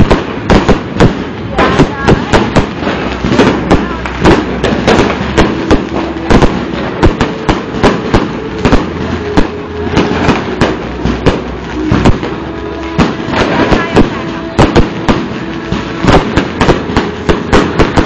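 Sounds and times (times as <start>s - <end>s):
distant fireworks rumble: 0.0s - 18.0s
fireworks bangs and crackles: 0.0s - 18.0s.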